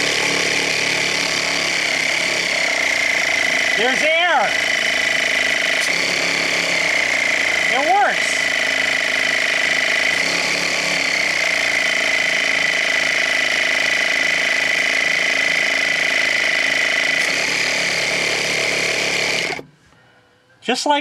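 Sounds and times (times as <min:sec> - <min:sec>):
air compressor whining: 0:00.0 - 0:20.0.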